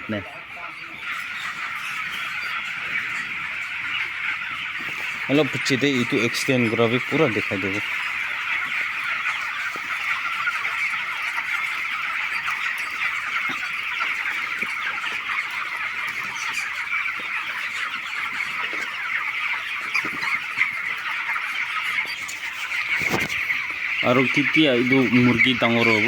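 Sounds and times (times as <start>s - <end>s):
chickens cheeping and clucking: 0.0s - 26.0s.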